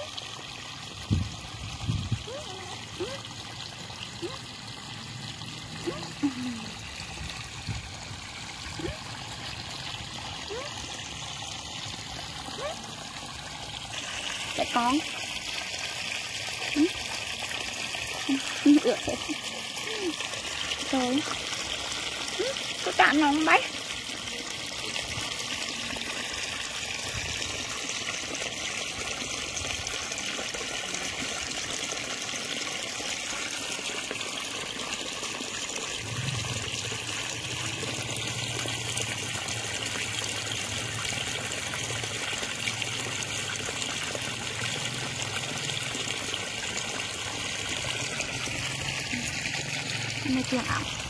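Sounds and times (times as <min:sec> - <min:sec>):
water running from garden hose: 0:00.0 - 0:51.0.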